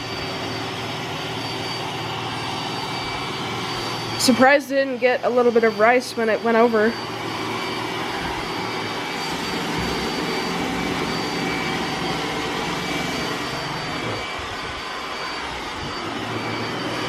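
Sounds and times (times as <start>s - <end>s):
high whine: 0.0s - 17.0s
robot vacuum whirring: 0.0s - 17.0s.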